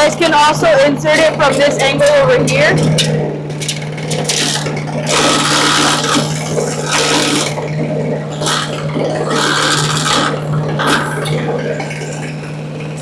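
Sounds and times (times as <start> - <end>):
wood chipper engine humming: 0.0 - 13.0.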